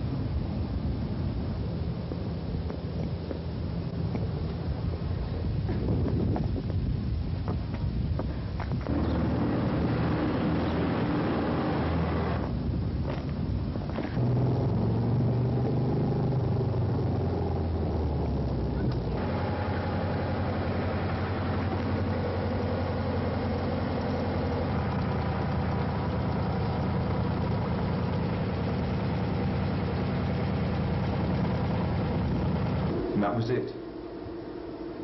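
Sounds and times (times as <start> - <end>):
car engine running: 0.3 - 35.0.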